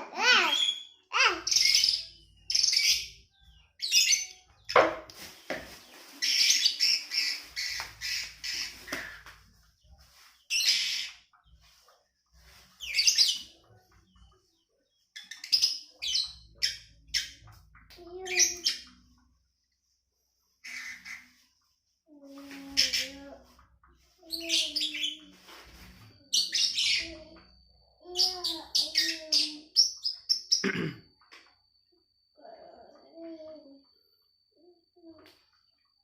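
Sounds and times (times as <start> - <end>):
songbird chirping and whistling: 0.3 - 19.2, 20.6 - 30.6.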